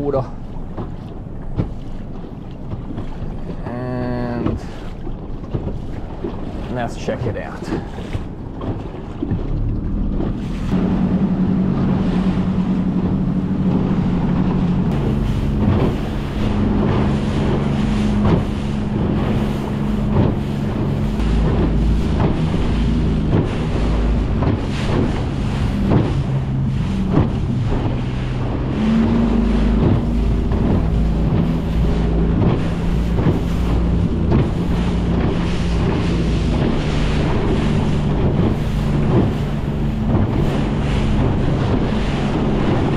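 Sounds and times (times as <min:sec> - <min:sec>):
hull slapping water: 0:00.0 - 0:42.9
outboard engine running: 0:00.0 - 0:42.9
wind buffeting microphone: 0:00.0 - 0:42.9.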